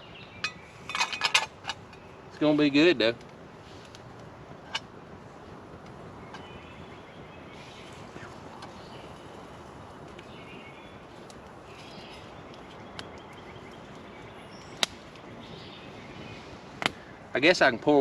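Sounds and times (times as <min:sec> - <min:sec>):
campfire crackling and popping: 0:00.6 - 0:17.6.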